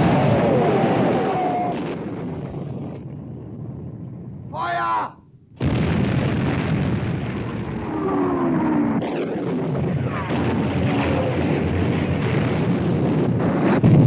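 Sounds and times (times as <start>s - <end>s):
rumble of gunfire: 0.0s - 4.5s, 5.5s - 14.0s.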